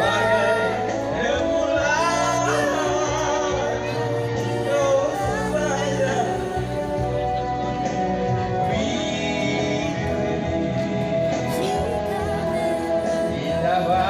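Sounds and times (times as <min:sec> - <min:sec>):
person singing: 0:00.0 - 0:07.4, 0:08.6 - 0:14.0.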